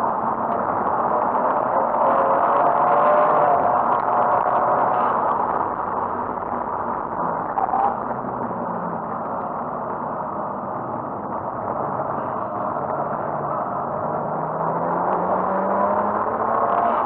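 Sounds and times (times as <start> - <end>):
road and tyre noise: 0.0 - 17.0.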